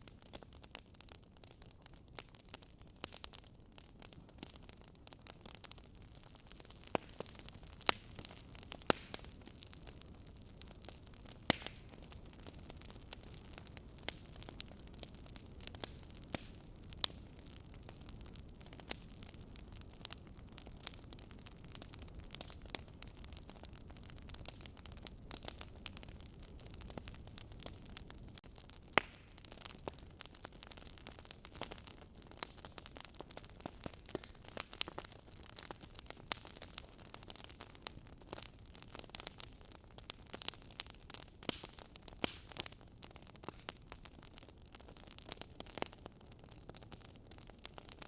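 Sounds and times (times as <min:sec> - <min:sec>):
low steady hiss: 0:00.0 - 0:46.2
wood fire crackling: 0:00.0 - 0:48.0.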